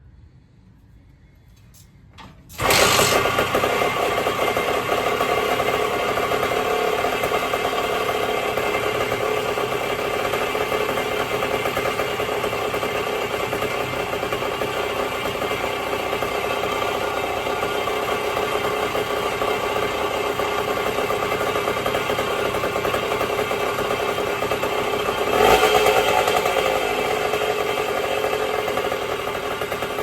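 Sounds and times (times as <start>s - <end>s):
dirt bike engine starting and idling: 1.0s - 30.0s.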